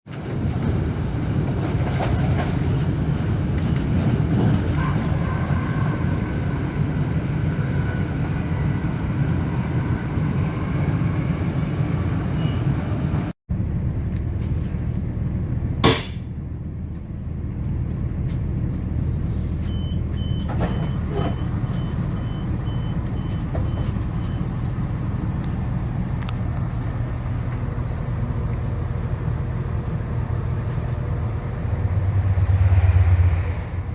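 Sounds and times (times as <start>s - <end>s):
train rumbling on track: 0.0s - 33.9s.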